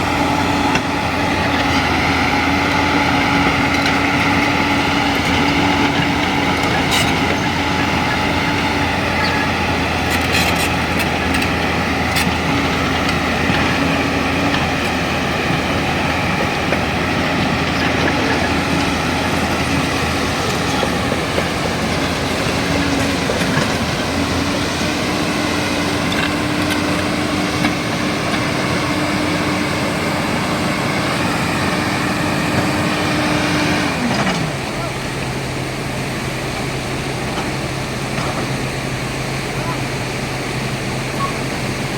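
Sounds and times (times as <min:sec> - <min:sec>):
excavator engine and hydraulics: 0:00.0 - 0:41.9.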